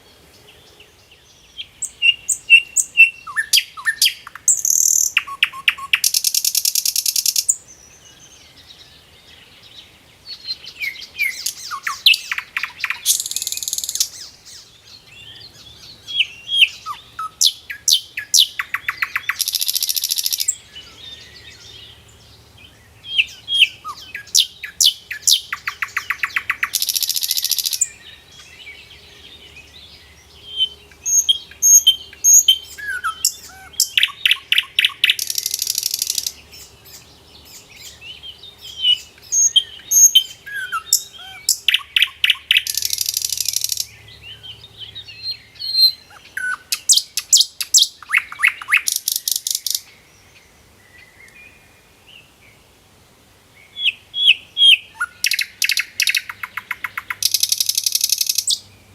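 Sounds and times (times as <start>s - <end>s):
small songbirds singing: 0.0s - 58.9s.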